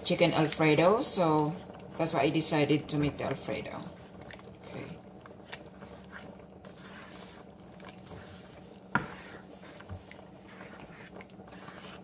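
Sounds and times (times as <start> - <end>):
steady low hum: 0.0 - 12.0
spoon stirring thick sauce: 0.4 - 12.0.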